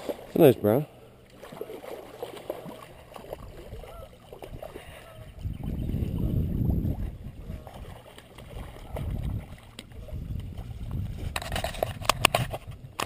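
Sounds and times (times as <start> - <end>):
water sloshing: 0.0 - 13.0.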